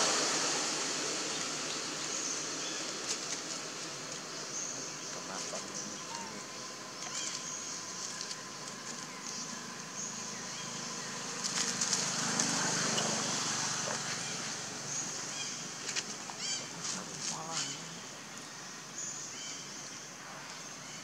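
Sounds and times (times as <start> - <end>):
rustling over dry leaves: 0.0 - 18.0
high insect drone: 0.0 - 21.0.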